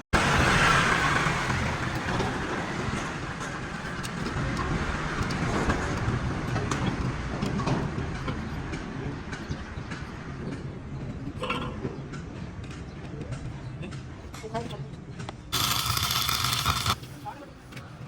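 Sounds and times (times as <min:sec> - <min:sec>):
traffic noise: 0:00.2 - 0:18.0.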